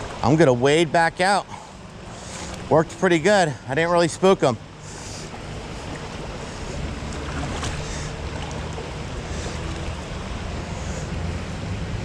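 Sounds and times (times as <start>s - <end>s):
river current over rocks: 0.0s - 12.0s.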